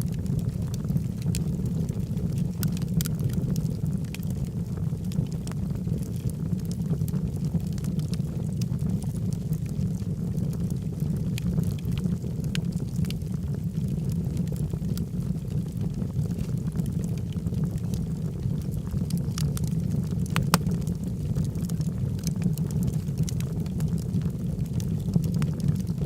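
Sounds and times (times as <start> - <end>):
log fire crackling and popping: 0.0 - 26.0.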